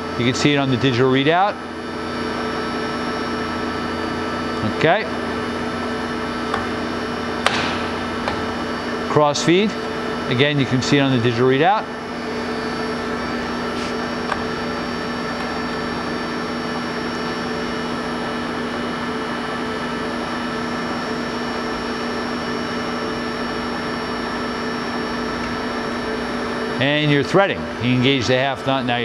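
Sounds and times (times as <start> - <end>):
lathe running with whine: 0.0 - 29.0.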